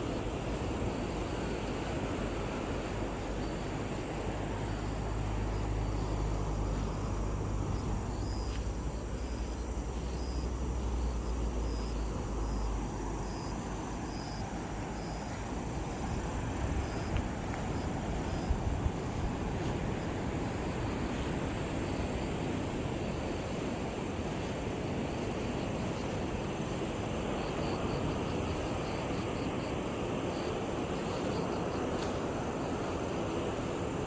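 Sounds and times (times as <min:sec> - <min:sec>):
low engine drone: 0:00.0 - 0:29.1.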